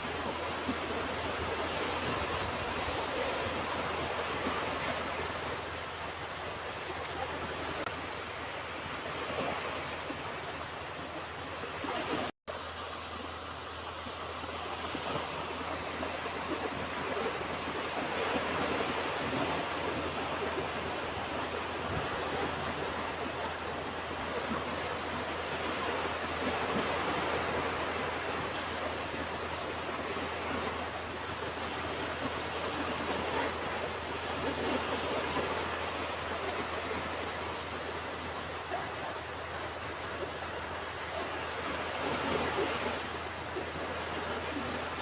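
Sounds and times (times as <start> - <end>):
ocean surf washing onto beach: 0.0 - 45.0.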